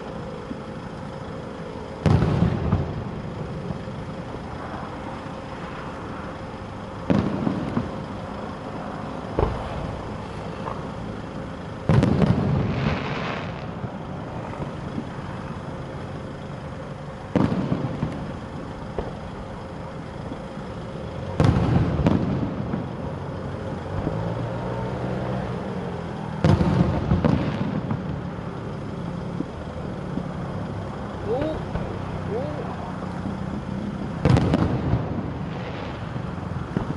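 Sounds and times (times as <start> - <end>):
fireworks bangs: 0.2 - 4.5, 6.3 - 15.7, 16.6 - 36.9.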